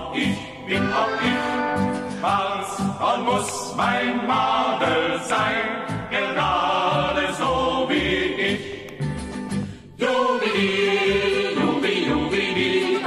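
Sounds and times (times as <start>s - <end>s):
choir singing: 0.0s - 9.0s, 10.0s - 13.0s.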